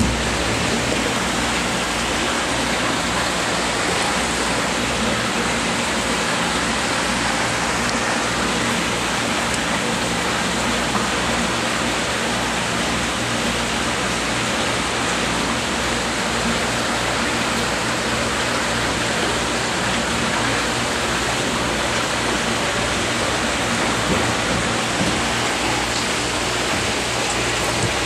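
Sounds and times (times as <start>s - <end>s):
water bubbling in fish tank: 0.0s - 28.0s.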